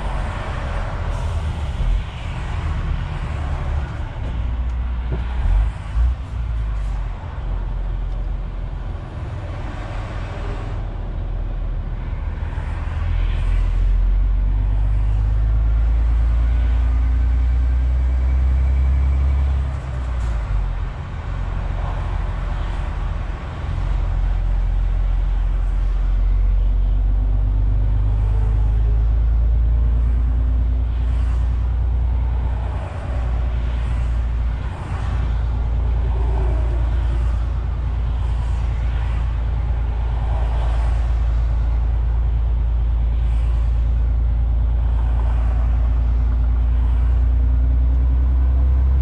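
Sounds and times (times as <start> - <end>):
diesel engine drone: 0.0 - 49.0
road rumble: 0.0 - 49.0.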